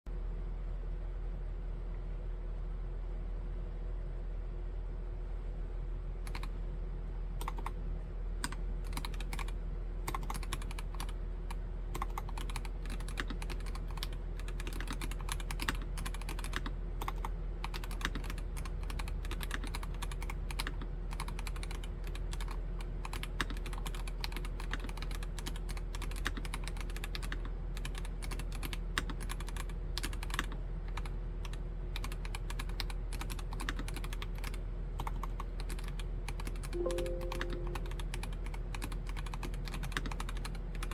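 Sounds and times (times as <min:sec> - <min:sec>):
mechanical keyboard typing: 0:06.3 - 0:06.6, 0:07.4 - 0:07.8, 0:08.4 - 0:40.9.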